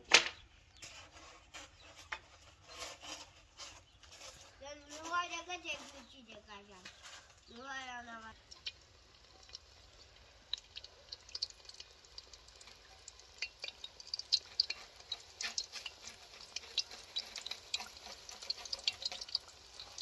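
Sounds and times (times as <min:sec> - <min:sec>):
oil sizzling with crackles and pops: 0:00.7 - 0:20.0.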